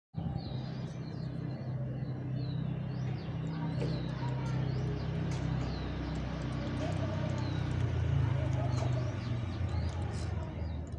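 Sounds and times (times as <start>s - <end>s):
small birds chirping: 0.1s - 10.9s.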